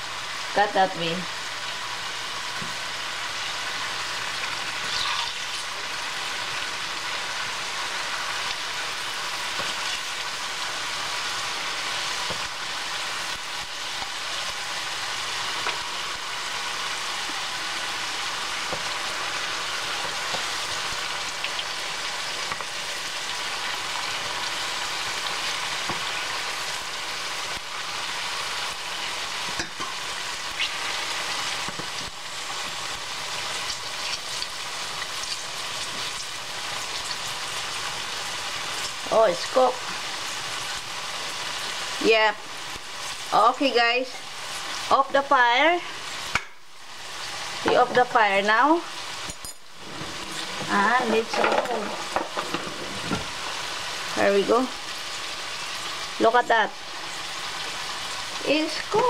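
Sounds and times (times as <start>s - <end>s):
food sizzling in hot oil: 0.0s - 59.0s.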